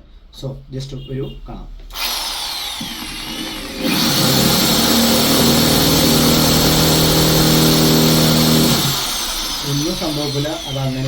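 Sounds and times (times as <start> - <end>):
electric drill spinning: 1.9 - 11.0.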